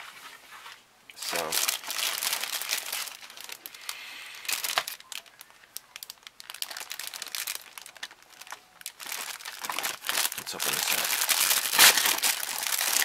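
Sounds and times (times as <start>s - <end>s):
plastic bag crinkling: 1.2s - 13.0s.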